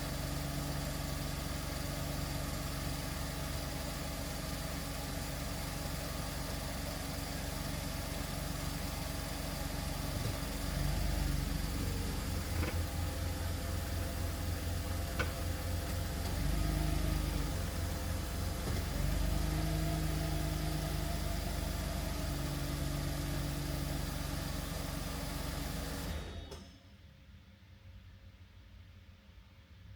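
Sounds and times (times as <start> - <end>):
car engine idling: 0.0 - 26.2.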